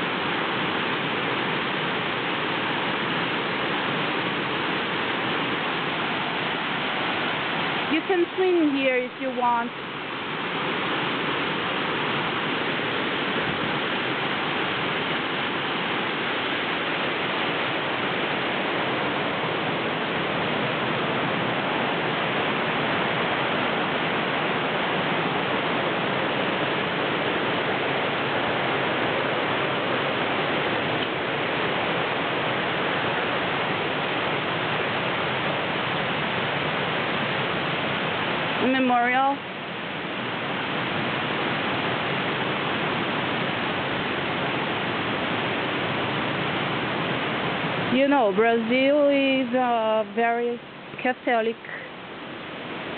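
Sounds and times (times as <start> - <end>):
waterfall pouring over rocks: 0.0 - 52.9.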